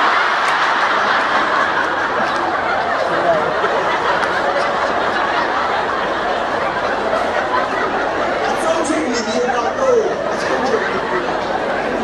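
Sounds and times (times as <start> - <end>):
congregation laughing: 0.0 - 12.0.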